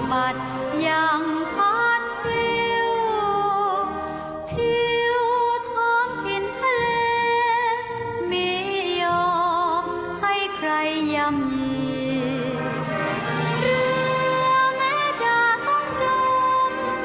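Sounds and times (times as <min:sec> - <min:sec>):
musical accompaniment: 0:00.0 - 0:17.0
slow sung melody with vibrato: 0:00.0 - 0:17.0.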